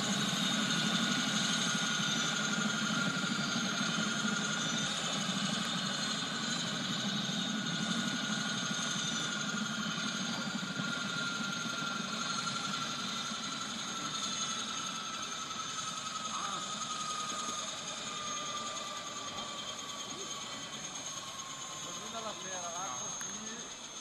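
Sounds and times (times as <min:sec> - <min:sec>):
model helicopter idling: 0:00.0 - 0:24.0.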